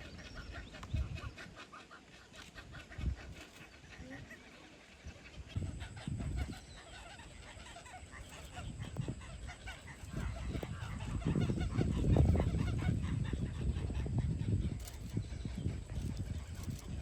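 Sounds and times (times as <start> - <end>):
birds chattering: 0.0 - 17.0.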